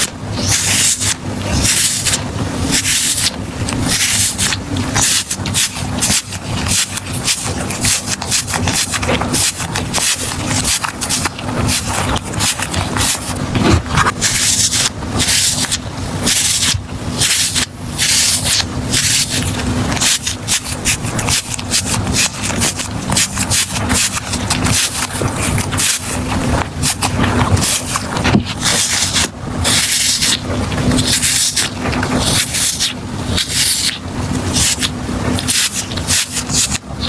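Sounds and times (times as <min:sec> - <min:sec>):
squishy balls squeezed and rubbed: 0:00.0 - 0:36.9.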